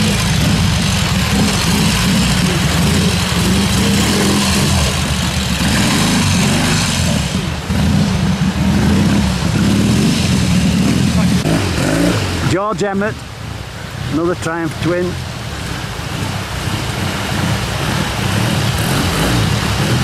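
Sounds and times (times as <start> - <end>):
motorcycle engine revving: 0.0 - 12.9, 14.8 - 20.0
water rushing and splashing: 0.0 - 20.0.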